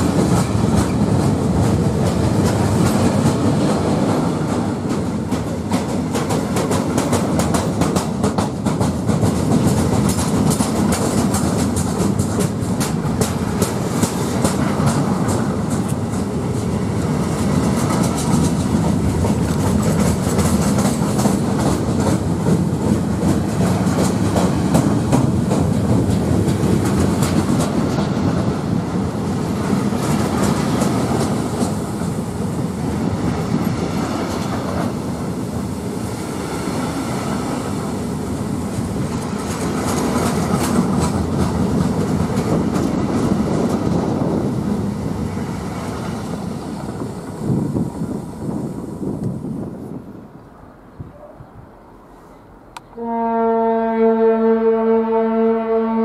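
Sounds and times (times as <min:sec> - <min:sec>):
train wheels clattering over rails: 0:00.0 - 0:49.8.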